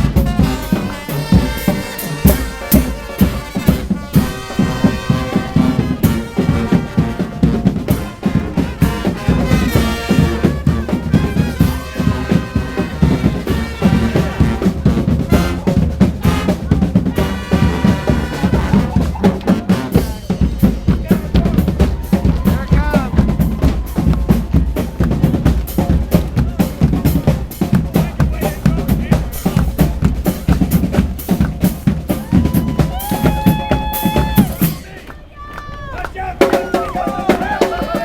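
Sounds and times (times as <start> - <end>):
snare and bass drums beating: 0.0 - 35.0, 36.2 - 38.0
brass horns: 0.0 - 38.0
street brass band playing: 0.0 - 38.0.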